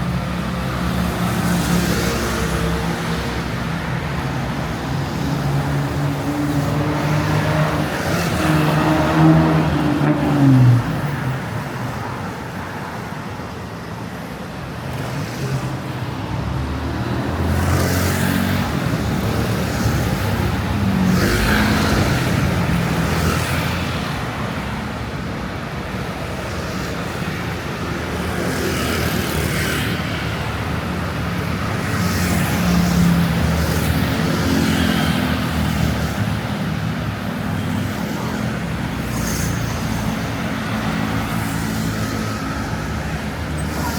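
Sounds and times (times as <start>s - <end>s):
vehicles passing: 0.0s - 43.9s.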